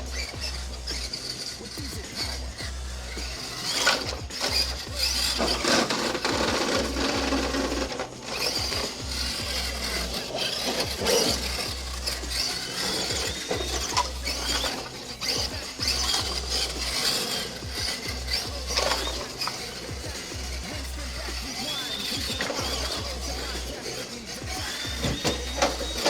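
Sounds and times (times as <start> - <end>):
music with pulsing bass: 0.0 - 26.0
toy car drivetrain whirring: 0.0 - 26.0.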